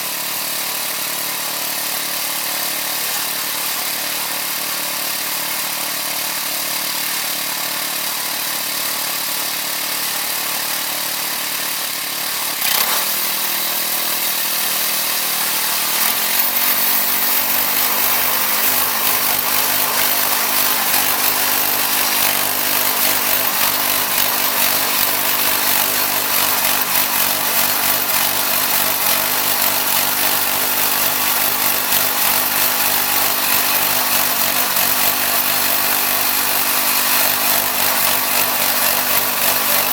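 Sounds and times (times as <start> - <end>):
band sawmill sawing wood: 0.0 - 39.9.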